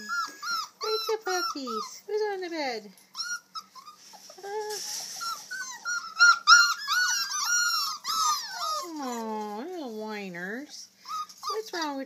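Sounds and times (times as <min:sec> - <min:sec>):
puppies whining and squeaking: 0:00.0 - 0:12.0.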